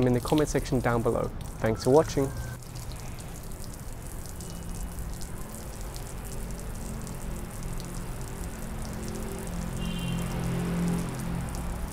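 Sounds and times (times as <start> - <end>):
water splashing on concrete: 0.0 - 11.9.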